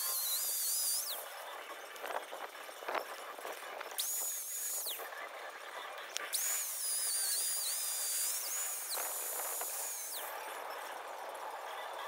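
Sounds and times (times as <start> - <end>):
rotary tool whining: 0.0 - 12.0.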